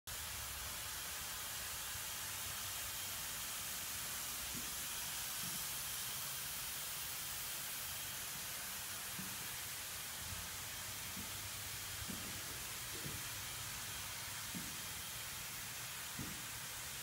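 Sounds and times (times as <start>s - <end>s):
steady air hiss: 0.1s - 17.0s.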